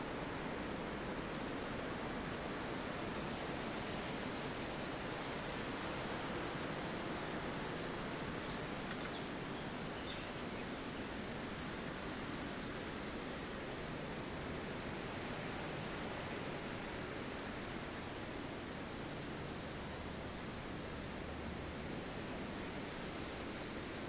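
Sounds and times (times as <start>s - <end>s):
wind rustling through trees: 0.0s - 24.0s.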